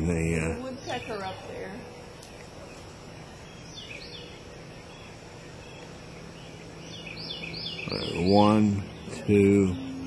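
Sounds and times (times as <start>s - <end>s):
bird calling: 0.5s - 10.0s.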